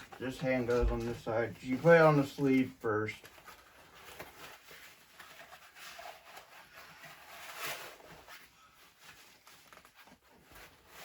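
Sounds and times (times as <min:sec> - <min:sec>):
cloth rustling and rubbing: 0:00.0 - 0:11.0.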